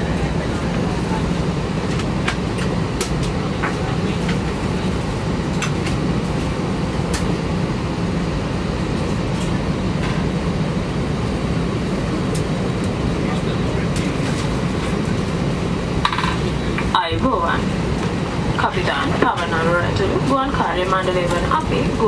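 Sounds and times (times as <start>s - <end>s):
airliner cabin hum: 0.0s - 22.0s.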